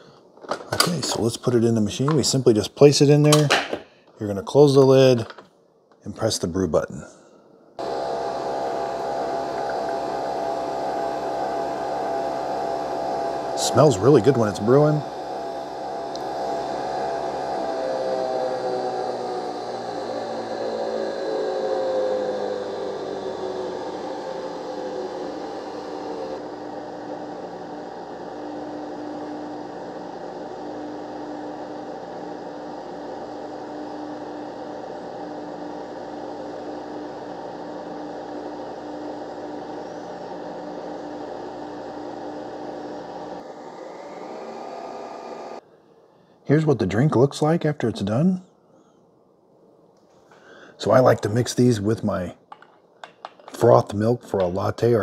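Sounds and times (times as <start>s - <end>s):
coffee machine whirring: 0.0s - 5.4s, 7.8s - 45.7s, 50.4s - 55.0s.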